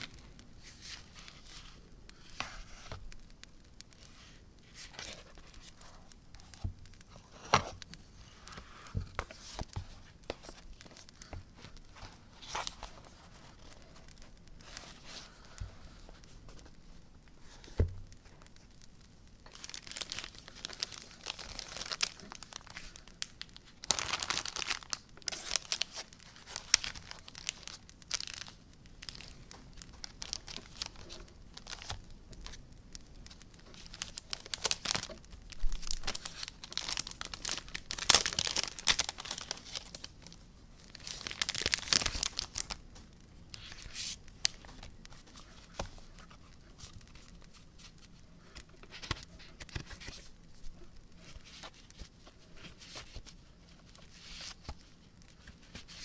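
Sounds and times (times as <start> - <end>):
hands tearing and crinkling packaging: 0.0 - 56.0.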